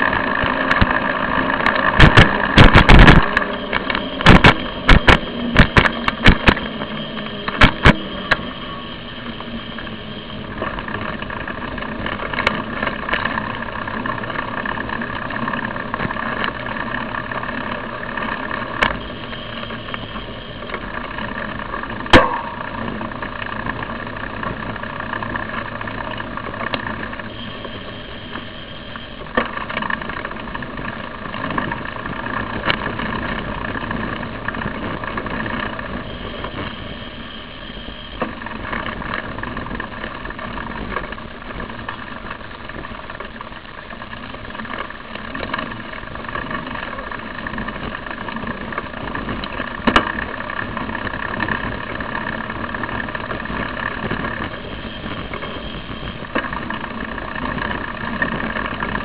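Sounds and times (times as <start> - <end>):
bicycle riding hum and rumble: 0.0 - 59.0.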